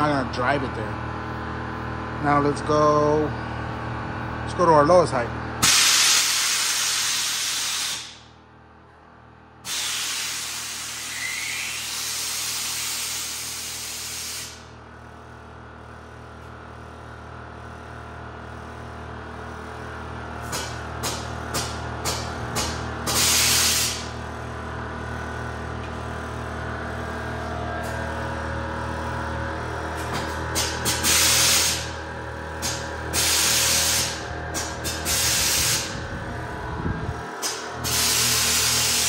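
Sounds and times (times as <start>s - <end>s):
air compressor humming: 0.0s - 39.0s.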